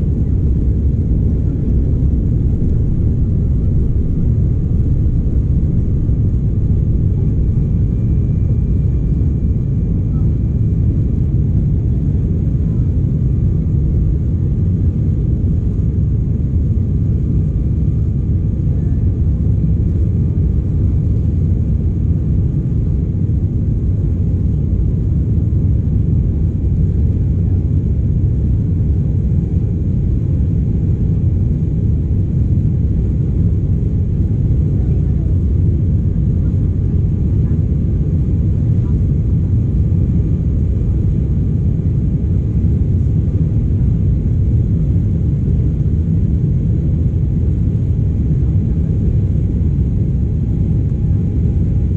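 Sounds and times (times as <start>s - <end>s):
faint engine whine: 0.0s - 51.9s
jet cabin rumble: 0.0s - 51.9s.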